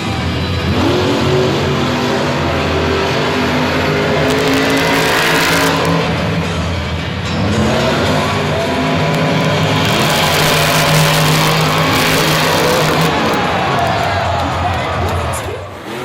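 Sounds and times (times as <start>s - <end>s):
music playing: 0.0s - 16.0s
truck engines revving: 0.0s - 16.0s.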